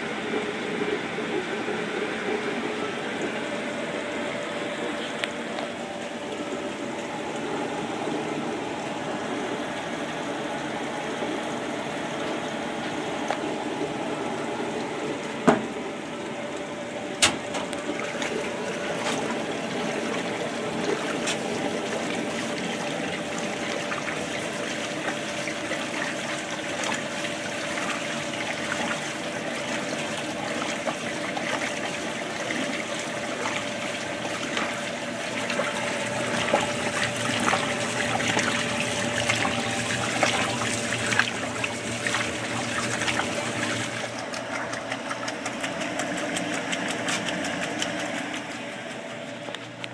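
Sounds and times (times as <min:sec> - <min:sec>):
washing machine motor hum: 0:00.0 - 0:49.9
water churning and sloshing: 0:00.0 - 0:49.9.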